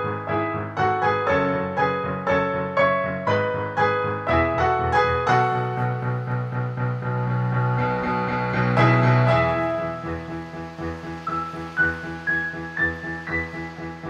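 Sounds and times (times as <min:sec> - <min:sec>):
keyboard melody: 0:00.0 - 0:14.0.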